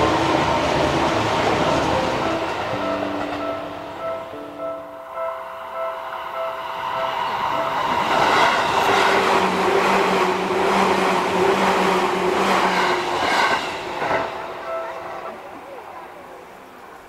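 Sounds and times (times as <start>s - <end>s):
train running hum: 0.0s - 17.0s.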